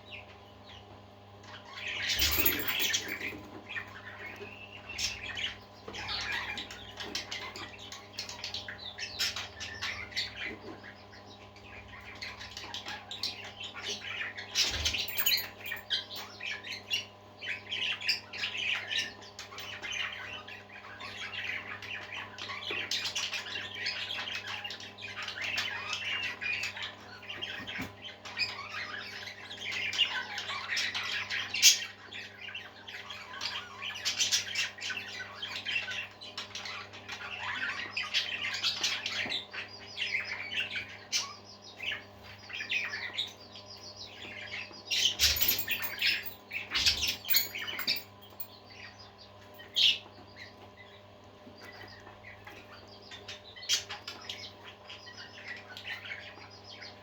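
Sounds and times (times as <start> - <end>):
parakeets chattering and squawking: 0.0 - 57.0.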